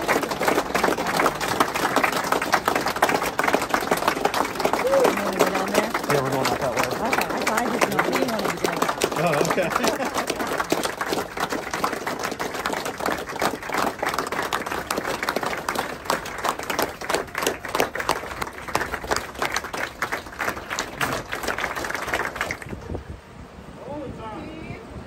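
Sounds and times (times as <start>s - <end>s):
crowd applauding: 0.0s - 22.9s.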